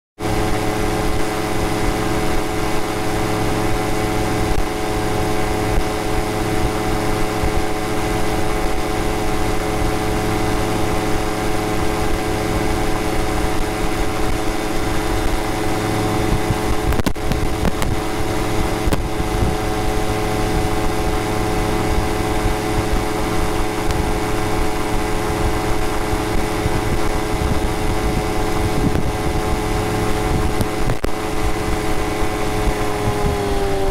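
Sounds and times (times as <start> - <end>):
engine and propeller running: 0.2 - 33.9
wind rushing: 4.6 - 33.9.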